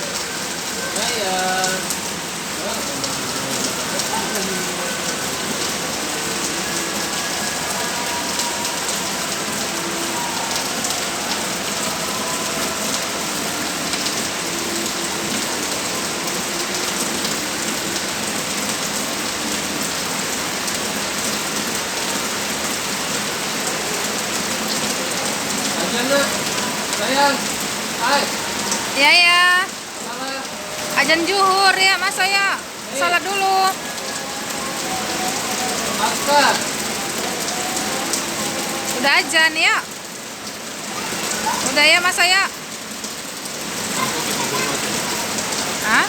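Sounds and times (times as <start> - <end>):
steady rain spattering: 0.0 - 46.0.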